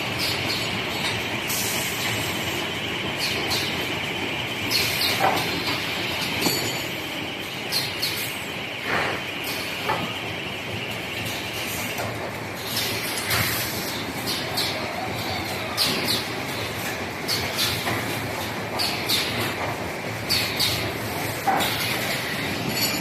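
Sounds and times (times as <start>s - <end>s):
laminating machine clatter and hiss: 0.0s - 23.0s.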